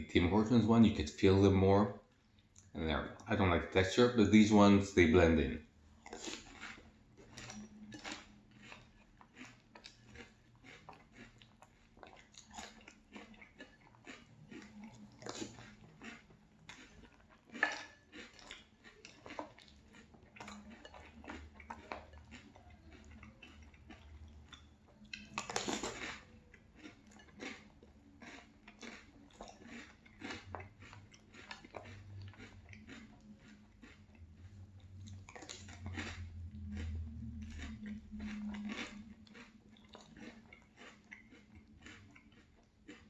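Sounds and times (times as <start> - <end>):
crunchy chewing of cereal: 0.1 - 43.0.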